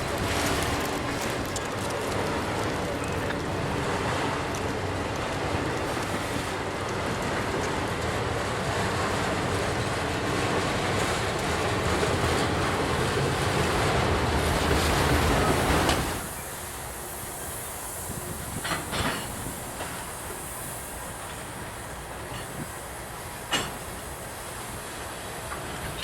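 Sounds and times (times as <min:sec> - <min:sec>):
freight train cars rumbling on rails: 0:00.0 - 0:26.0
train clanks: 0:00.0 - 0:26.0.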